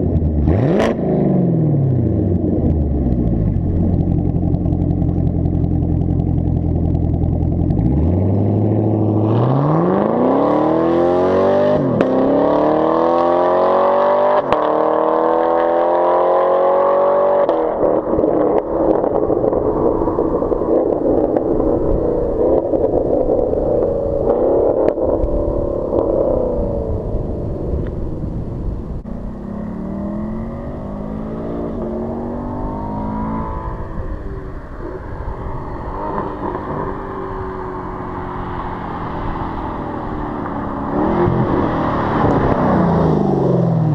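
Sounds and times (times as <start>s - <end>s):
car engine accelerating hard: 0.0s - 19.7s, 20.6s - 43.9s.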